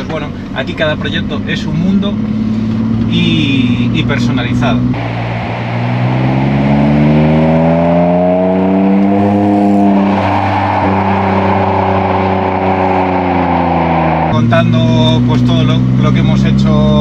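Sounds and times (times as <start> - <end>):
car engine accelerating: 0.4 - 17.0.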